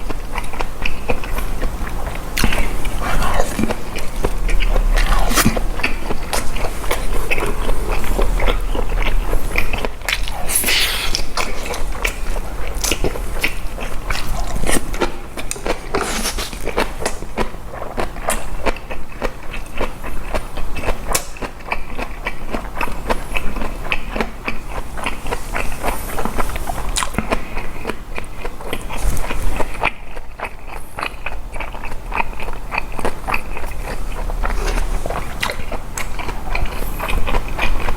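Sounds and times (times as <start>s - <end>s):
wet chewing and crunching: 0.0s - 37.9s.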